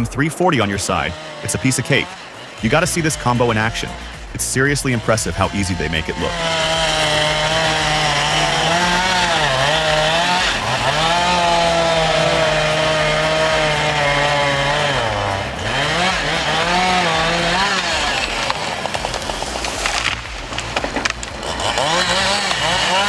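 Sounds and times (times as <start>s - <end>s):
chainsaw cutting through tree: 0.0s - 23.0s.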